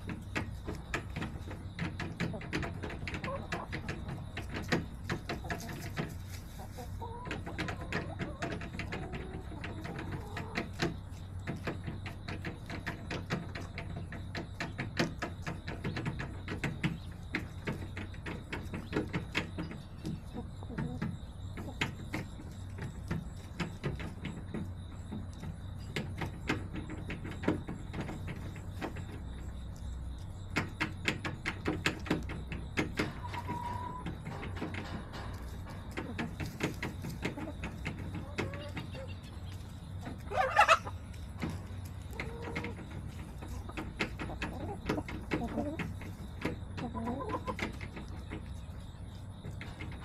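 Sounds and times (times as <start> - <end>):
chickens pecking hard surface: 0.0 - 50.0.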